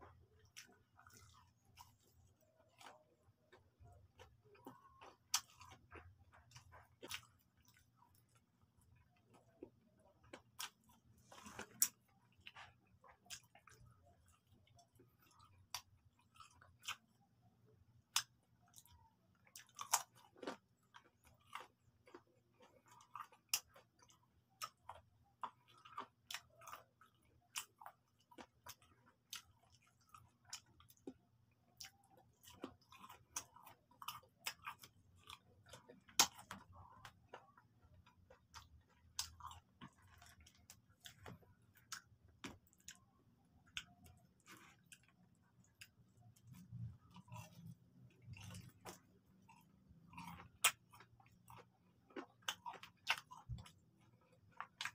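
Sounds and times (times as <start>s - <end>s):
person chewing crunchy food: 0.0s - 54.9s.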